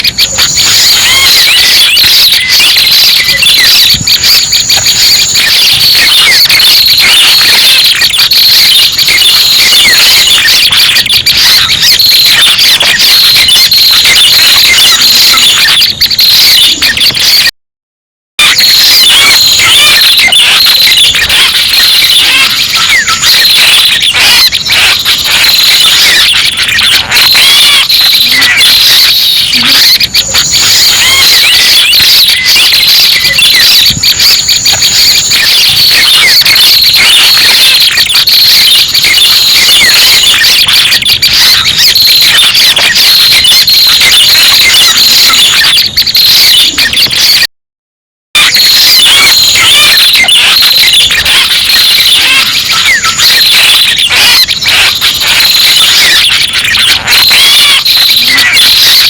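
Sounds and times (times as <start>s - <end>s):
fast high bird chirps and trills: 0.0s - 17.5s, 18.4s - 47.5s, 48.4s - 59.0s.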